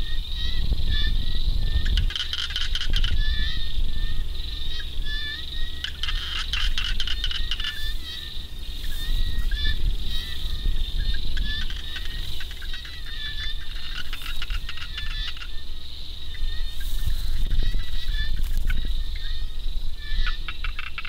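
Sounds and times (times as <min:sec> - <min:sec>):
frogs croaking: 0:00.0 - 0:21.0
insects trilling: 0:00.0 - 0:21.0.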